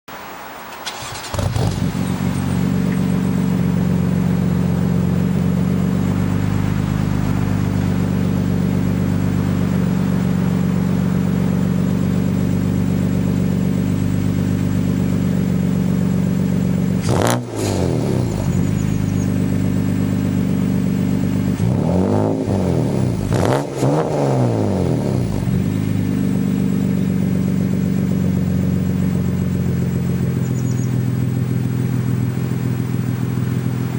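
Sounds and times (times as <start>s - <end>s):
car engine idling: 0.2s - 33.9s
car engine revving: 0.8s - 33.9s.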